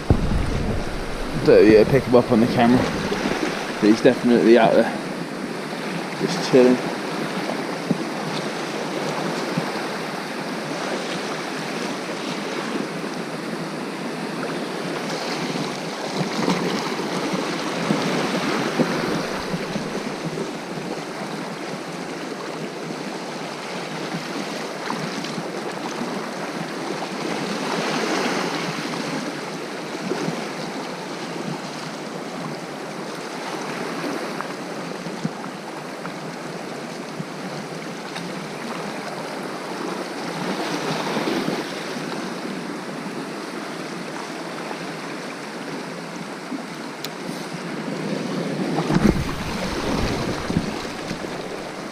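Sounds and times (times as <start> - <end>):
sea waves washing on shore: 0.0 - 51.9.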